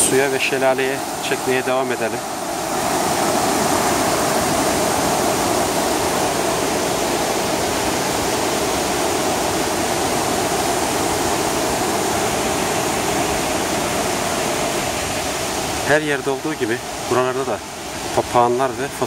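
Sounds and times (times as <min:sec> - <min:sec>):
waterfall and rushing river: 0:00.0 - 0:19.0.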